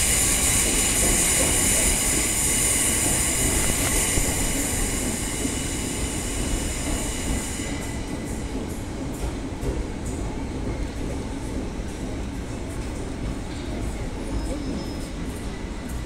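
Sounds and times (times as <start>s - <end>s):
electric train whine and hiss: 0.0s - 16.0s
low train rumble: 0.0s - 16.0s.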